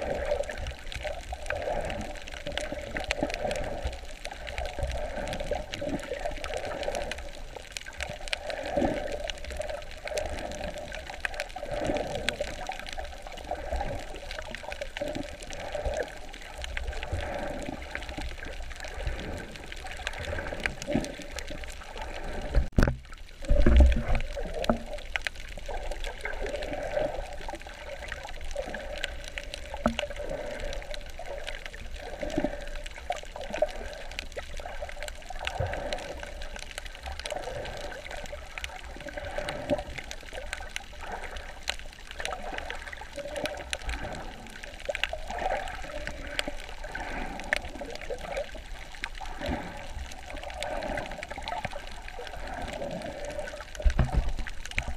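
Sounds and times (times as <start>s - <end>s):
water sloshing and bubbling: 0.0s - 54.9s.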